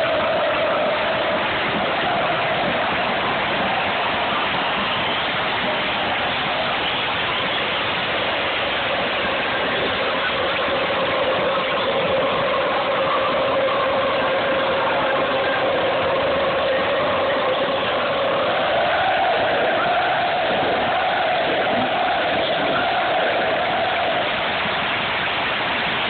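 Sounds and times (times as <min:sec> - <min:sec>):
crowd singing a chant: 0:00.0 - 0:07.5, 0:09.0 - 0:25.0
stadium crowd cheering: 0:00.0 - 0:26.0.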